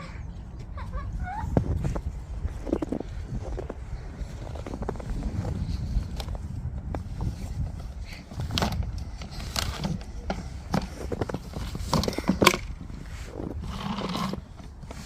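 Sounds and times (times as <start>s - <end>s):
wind rumble on microphone: 0.0s - 15.0s
crunching and knocking in snow: 1.5s - 15.0s.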